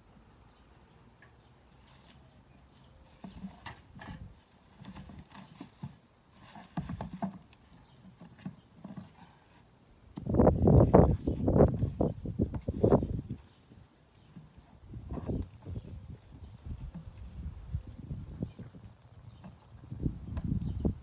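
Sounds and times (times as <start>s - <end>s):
rake scraping and rustling: 1.6s - 21.0s.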